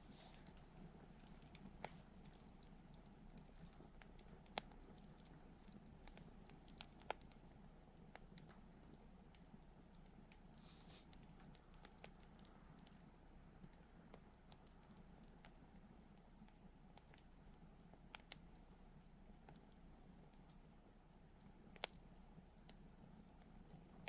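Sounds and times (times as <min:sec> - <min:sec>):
campfire crackling and popping: 0:00.1 - 0:24.0.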